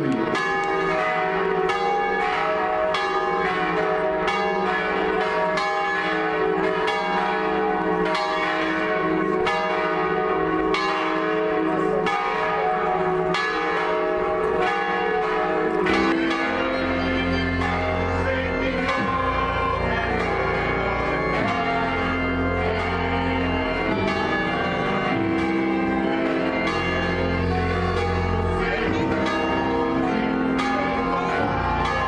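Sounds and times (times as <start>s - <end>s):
church bells ringing: 0.0s - 32.0s.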